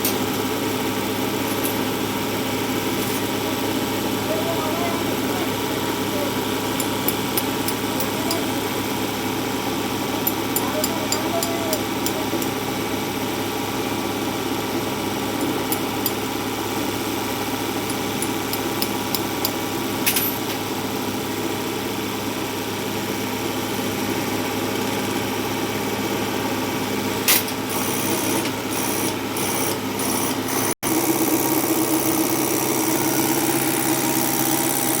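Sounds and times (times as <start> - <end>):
fuel injection pump humming: 0.2 - 35.0.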